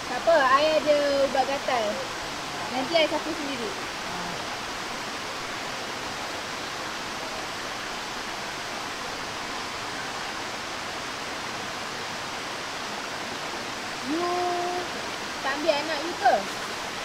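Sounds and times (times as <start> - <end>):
stream rushing over rock: 0.0 - 17.0.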